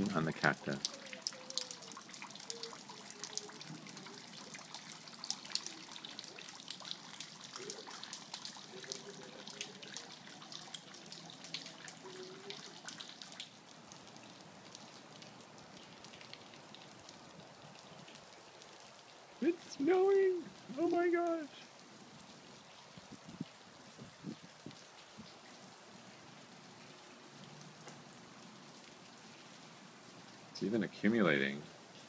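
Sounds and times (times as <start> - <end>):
fountain trickling into basin: 0.0 - 32.0
water drips: 0.0 - 32.0.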